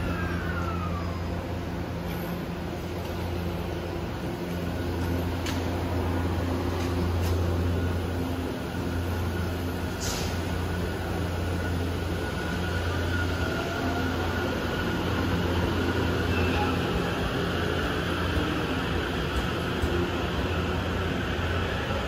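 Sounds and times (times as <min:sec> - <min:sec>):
electric train running hum: 0:00.0 - 0:22.0
train rising whine: 0:00.0 - 0:22.0.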